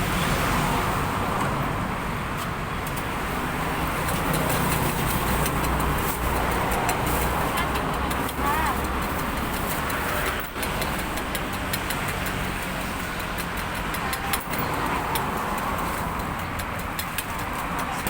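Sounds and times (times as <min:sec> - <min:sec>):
road vehicles passing and idling: 0:00.0 - 0:18.0.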